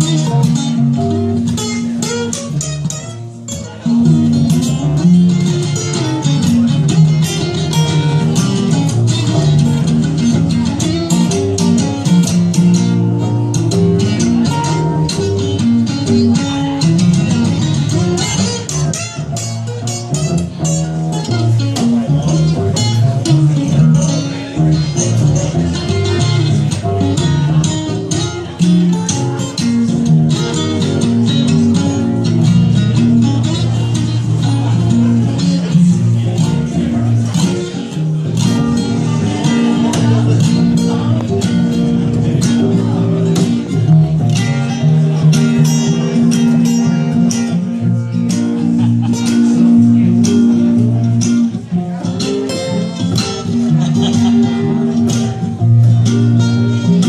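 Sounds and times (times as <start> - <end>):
double bass line: 0.0 - 57.0
plucked acoustic guitar: 0.0 - 57.0.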